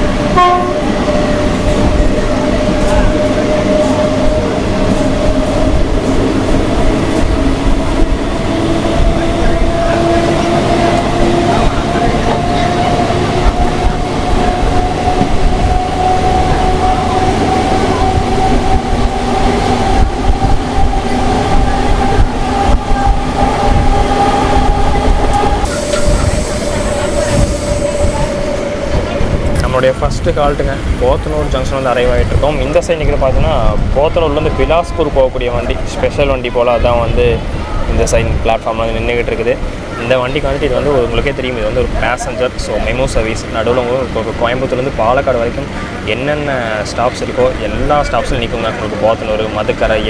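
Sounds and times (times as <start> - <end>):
train hum: 0.0 - 50.0
train wheels rumbling on track: 0.0 - 50.0.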